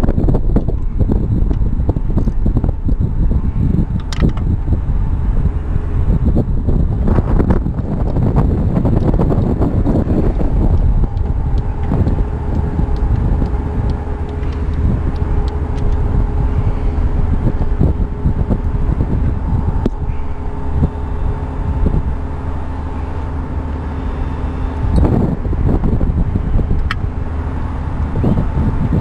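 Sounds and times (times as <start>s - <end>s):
faint steady hum: 0.0s - 29.0s
wind buffeting microphone: 0.0s - 29.0s.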